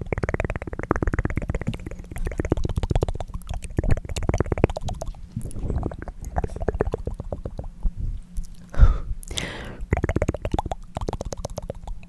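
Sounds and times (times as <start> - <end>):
wet tongue clicks: 0.0 - 12.0.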